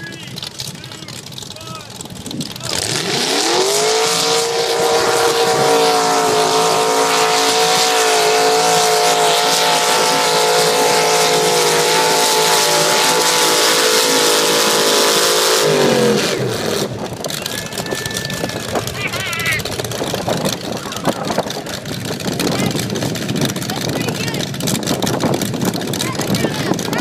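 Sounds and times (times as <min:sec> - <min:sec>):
truck engine at high revs: 0:00.0 - 0:27.0.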